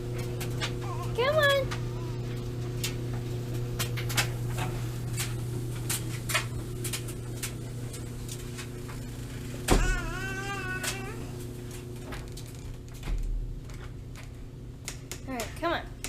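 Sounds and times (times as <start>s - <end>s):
machine humming: 0.0s - 15.3s.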